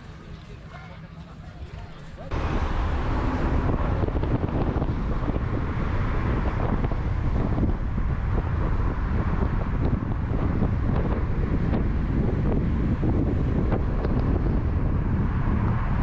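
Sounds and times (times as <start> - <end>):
wind buffeting microphone: 1.4 - 16.0.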